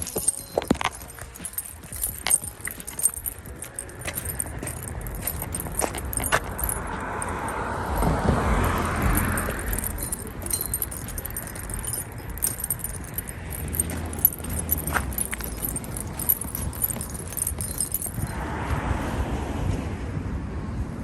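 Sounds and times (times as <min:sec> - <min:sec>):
keys jangling: 0:00.0 - 0:18.4.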